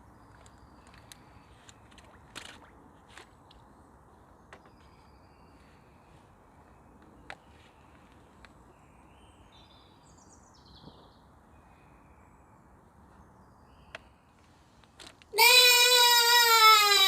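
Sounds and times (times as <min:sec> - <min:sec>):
faint birdsong chirps: 0:00.0 - 0:15.4.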